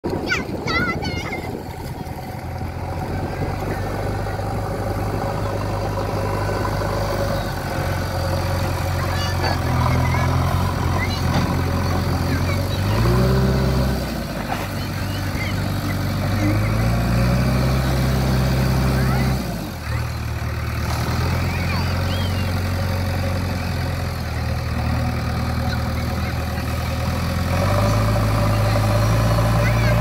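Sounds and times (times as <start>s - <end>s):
diesel engine running and revving: 0.0s - 30.0s.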